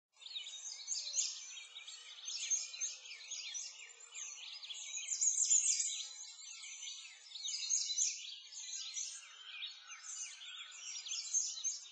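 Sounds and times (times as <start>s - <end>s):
birds chirping and singing: 0.2s - 11.9s.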